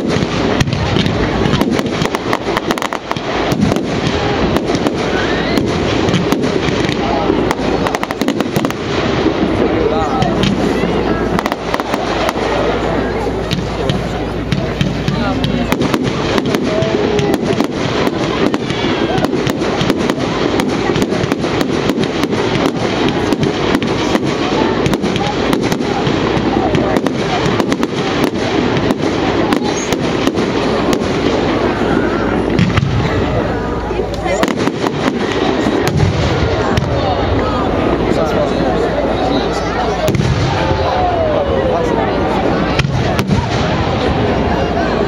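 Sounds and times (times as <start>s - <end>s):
rumble of bursting shells: 0.0s - 33.4s, 34.3s - 38.1s, 40.0s - 40.9s, 42.7s - 44.1s
fireworks crackling pops and bangs: 0.0s - 45.0s.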